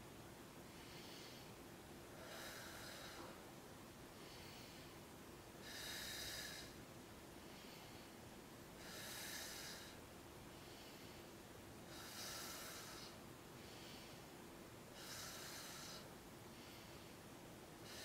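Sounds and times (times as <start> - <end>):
woman breathing slowly: 0.6 - 18.0.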